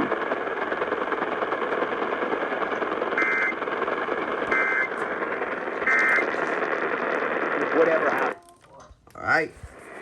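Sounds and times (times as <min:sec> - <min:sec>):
radio static: 0:00.0 - 0:08.4, 0:09.3 - 0:10.0.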